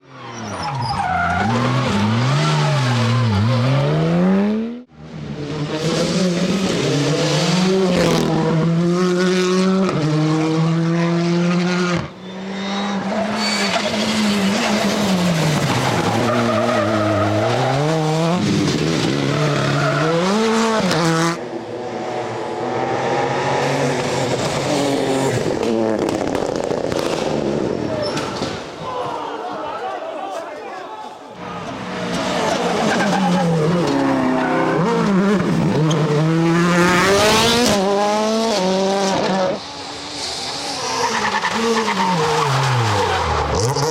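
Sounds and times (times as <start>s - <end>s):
rally car engines revving: 0.1s - 28.8s, 31.4s - 43.9s.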